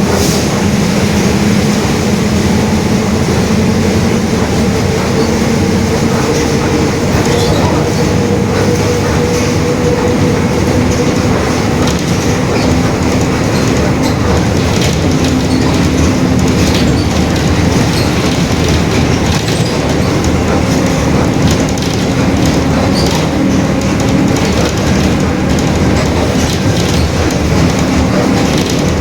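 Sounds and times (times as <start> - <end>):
bus diesel engine rumble: 0.0 - 29.0
rattles and clicks: 0.0 - 29.0.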